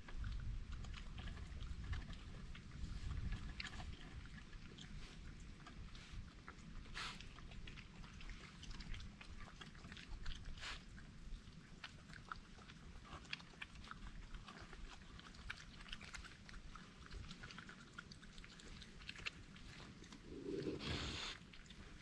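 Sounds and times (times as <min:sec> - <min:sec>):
animals chewing and crunching food: 0:00.0 - 0:22.0.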